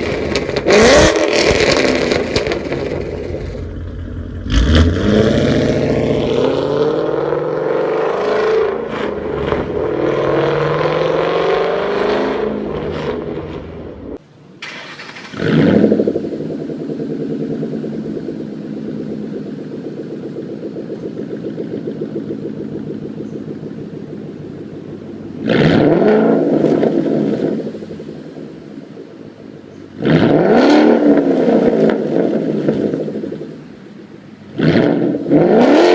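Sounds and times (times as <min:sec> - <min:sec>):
car engine revving: 0:00.0 - 0:35.9
car engine starting and idling: 0:00.0 - 0:35.9.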